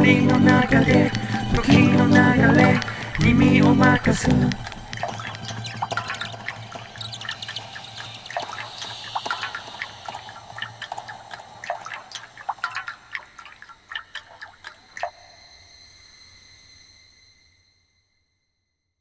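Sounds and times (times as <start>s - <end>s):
water dripping: 0.0s - 15.5s.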